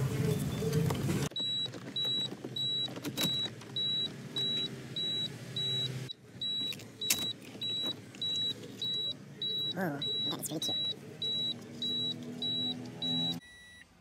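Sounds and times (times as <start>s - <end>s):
car warning chime beeping: 1.3s - 14.0s.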